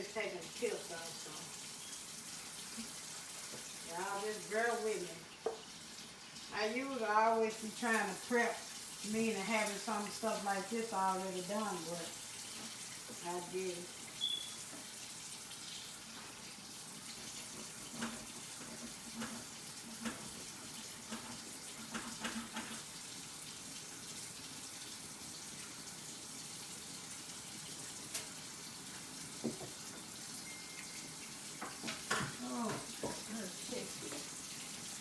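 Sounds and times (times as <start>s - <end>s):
kitchen faucet running into sink: 0.1s - 35.0s.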